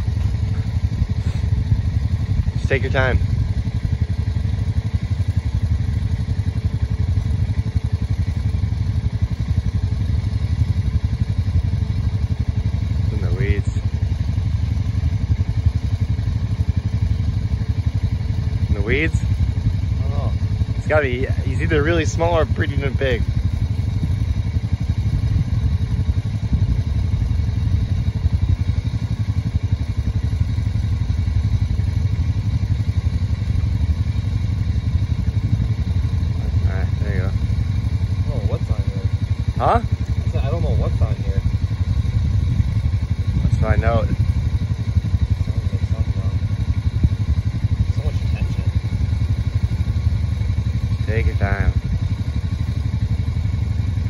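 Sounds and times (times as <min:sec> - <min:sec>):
atv engine idling: 0:00.0 - 0:54.0.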